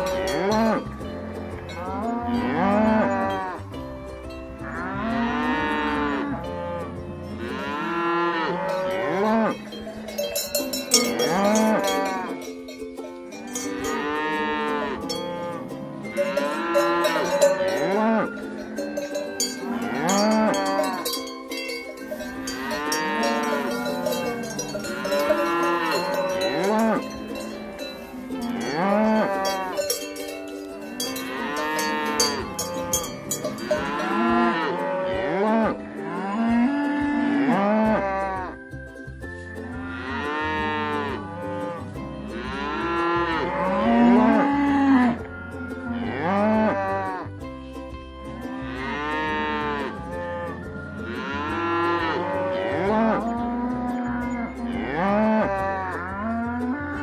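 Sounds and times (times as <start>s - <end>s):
cows mooing: 0.0s - 1.0s, 1.6s - 3.7s, 4.6s - 12.5s, 13.4s - 38.6s, 39.8s - 47.3s, 48.4s - 57.0s
cowbells clanking: 0.0s - 57.0s.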